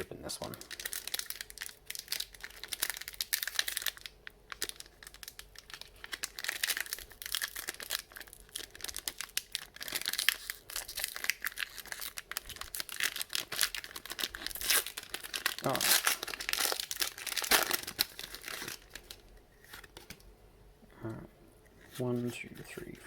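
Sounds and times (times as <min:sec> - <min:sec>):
foil pack tearing and crinkling: 0:00.0 - 0:20.1.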